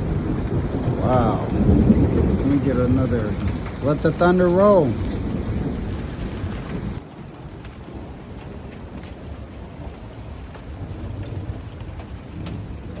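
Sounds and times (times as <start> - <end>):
rolling thunder: 0.0 - 13.0
steady rain falling: 0.0 - 13.0
sharp drip ticks: 1.5 - 13.0.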